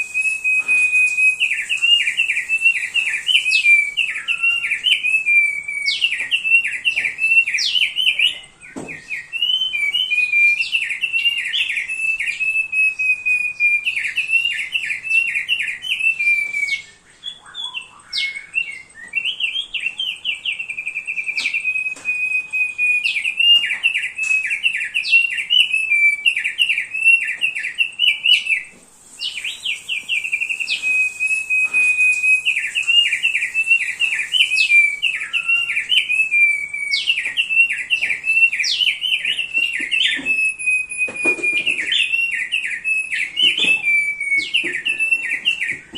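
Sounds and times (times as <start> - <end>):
bird singing chattering trills: 0.0 - 45.9.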